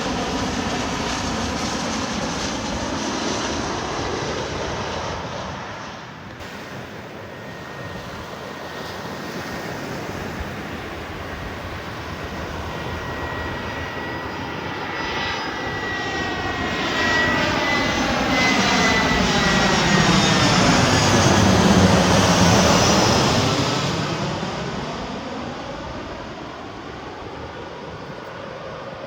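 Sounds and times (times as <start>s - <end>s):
aircraft engine overhead: 0.0s - 29.0s.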